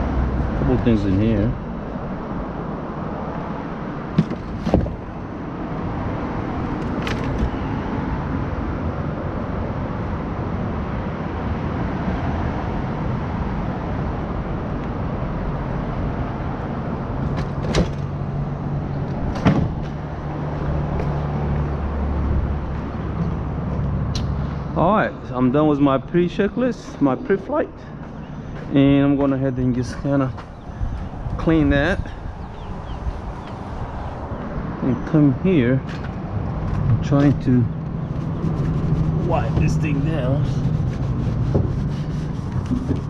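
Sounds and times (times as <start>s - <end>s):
outdoor rumble: 0.0s - 43.0s.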